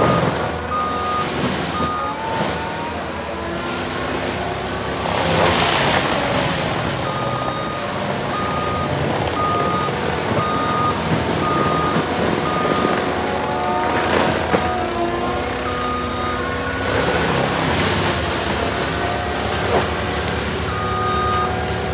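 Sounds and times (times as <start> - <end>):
backup alarm beeping: 0.0 - 21.9
loader engine revving: 0.0 - 21.9
loud rushes of noise: 0.0 - 21.9.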